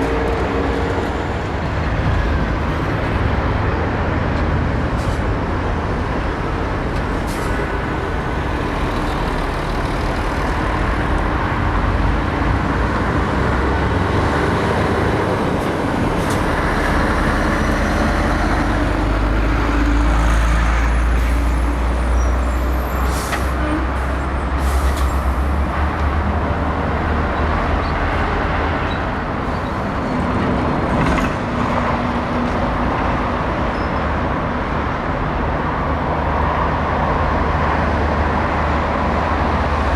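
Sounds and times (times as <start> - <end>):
diesel trucks passing: 0.0 - 39.9.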